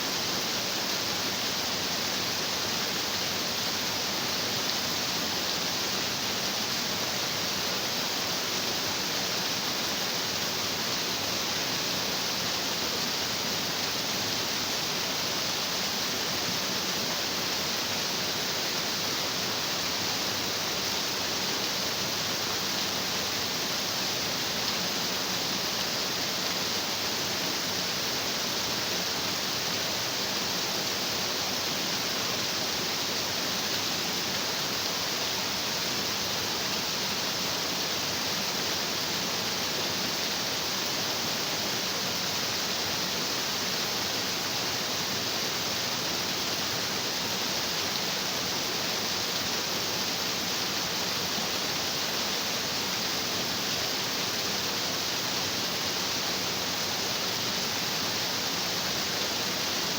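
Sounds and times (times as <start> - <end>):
stream water rushing over rocks: 0.0 - 59.9.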